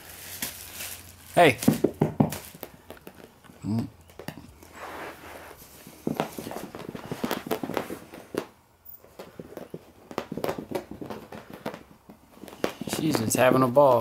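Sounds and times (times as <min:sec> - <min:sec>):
puppies scampering on carpet: 0:02.3 - 0:14.0.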